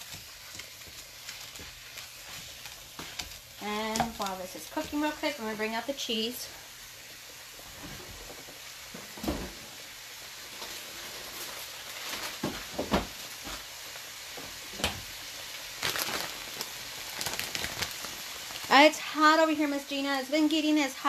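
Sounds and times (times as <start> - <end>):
meat sizzling in a frying pan: 0.0 - 21.0.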